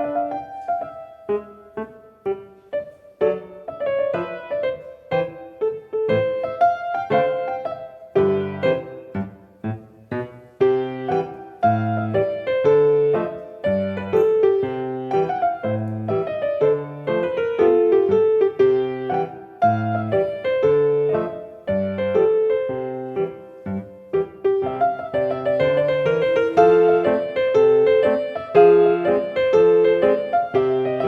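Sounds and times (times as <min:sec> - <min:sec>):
piano playing: 0:00.0 - 0:31.0.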